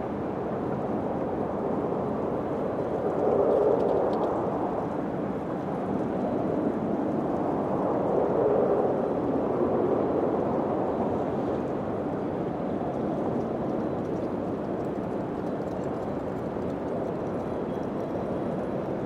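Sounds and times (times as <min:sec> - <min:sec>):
wind blowing: 0:00.0 - 0:19.0.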